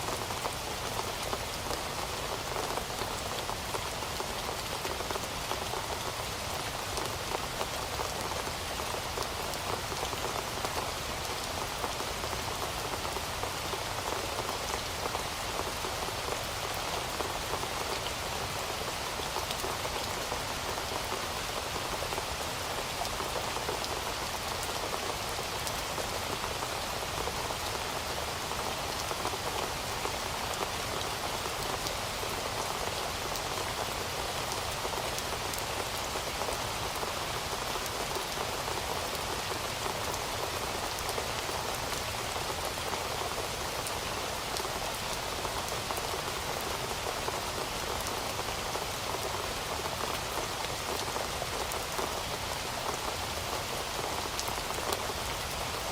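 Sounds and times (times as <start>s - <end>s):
heavy rain on hard surface: 0.0s - 55.9s.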